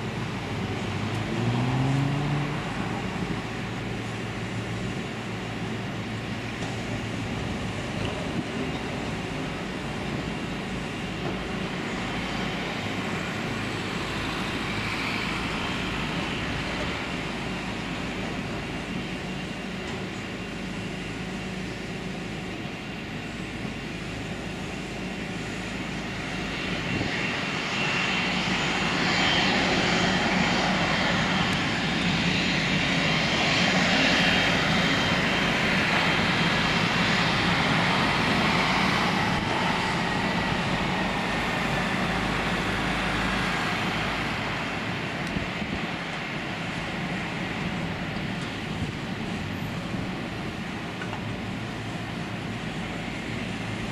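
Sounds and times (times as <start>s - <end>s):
jet engine whine and rumble: 0.0s - 53.9s.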